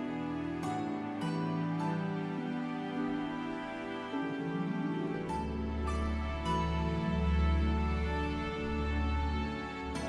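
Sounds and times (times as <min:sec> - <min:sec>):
slow gentle ambient music: 0:00.0 - 0:10.0.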